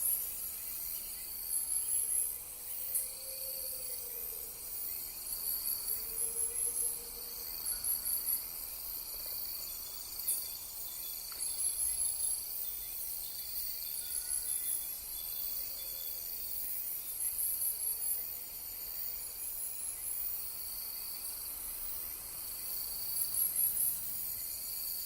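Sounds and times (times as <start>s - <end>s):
crickets trilling: 0.0s - 25.0s
rapid high-pitched insect chirps: 0.0s - 25.0s.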